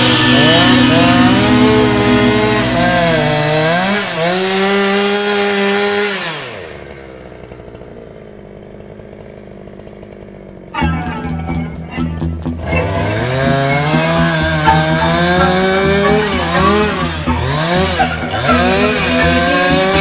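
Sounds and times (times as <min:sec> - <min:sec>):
chainsaw cutting and idling: 0:00.0 - 0:20.0.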